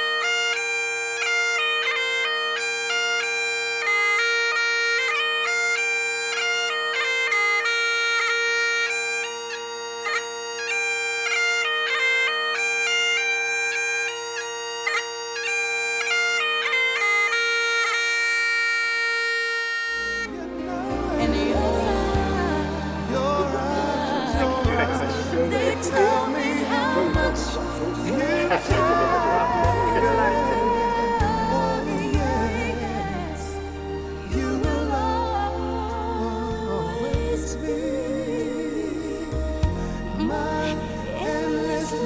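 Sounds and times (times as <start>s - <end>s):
bagpipes playing over drones: 0.0s - 42.0s.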